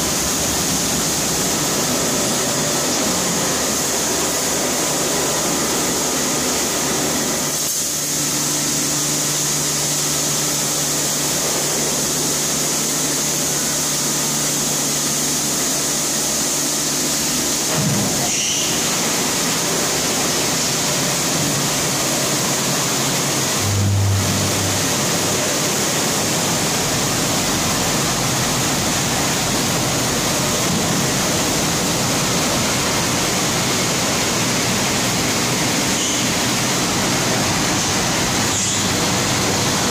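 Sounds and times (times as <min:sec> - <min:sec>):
car wash machinery noise: 0:00.0 - 0:39.9
water spray rushing: 0:00.0 - 0:39.9.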